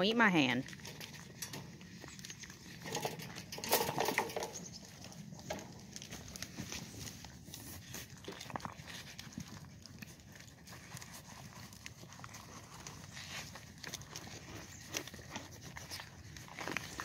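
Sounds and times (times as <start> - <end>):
goats chewing and crunching: 0.0 - 17.0.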